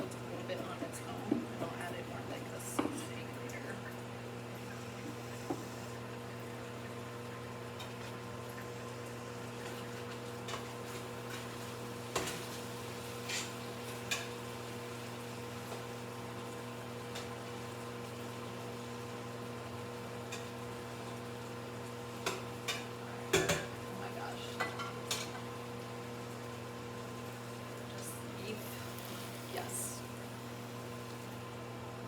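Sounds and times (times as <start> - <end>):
stew sizzling and bubbling: 0.0 - 32.0.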